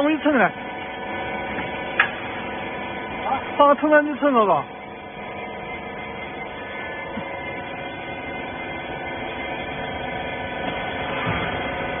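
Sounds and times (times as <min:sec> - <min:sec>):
hydraulic baler motor humming: 0:00.0 - 0:12.0.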